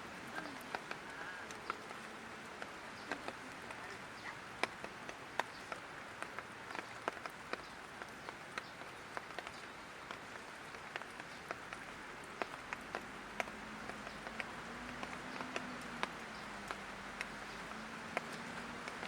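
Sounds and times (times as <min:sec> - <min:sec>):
light rain hissing: 0:00.0 - 0:19.0
raindrops ticking: 0:00.0 - 0:19.0.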